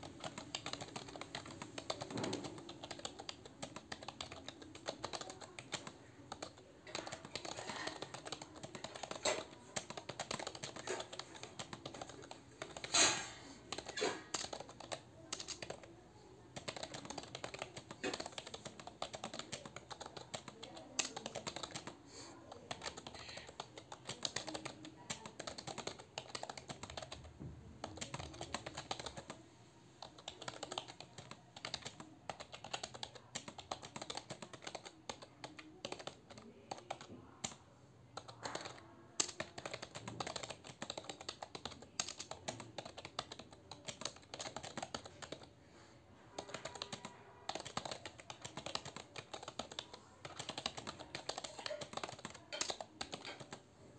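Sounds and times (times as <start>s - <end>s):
fast keyboard typing: 0.0s - 29.4s, 30.0s - 45.6s, 46.3s - 53.6s.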